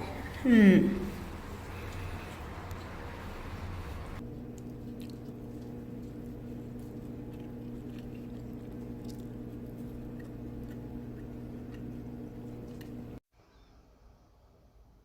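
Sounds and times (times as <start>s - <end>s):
low room hum: 0.0s - 13.2s.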